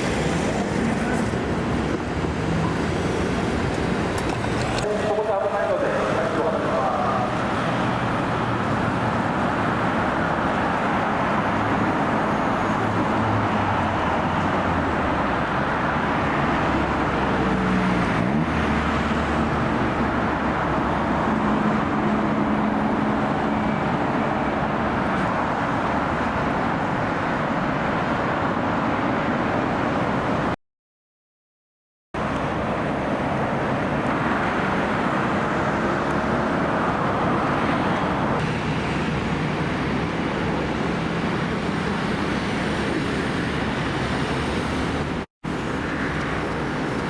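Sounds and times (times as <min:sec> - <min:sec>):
road traffic noise: 0:00.0 - 0:30.6, 0:32.2 - 0:47.0.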